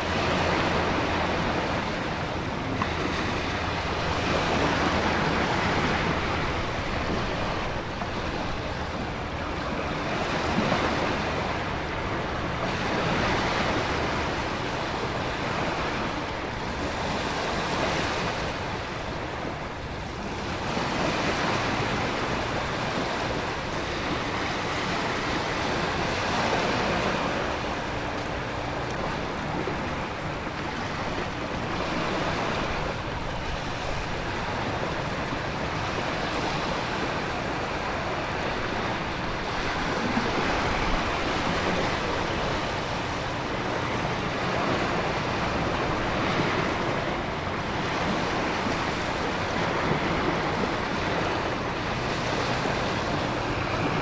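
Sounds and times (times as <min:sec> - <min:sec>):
ocean surf: 0:00.0 - 0:54.0
wind: 0:00.0 - 0:54.0.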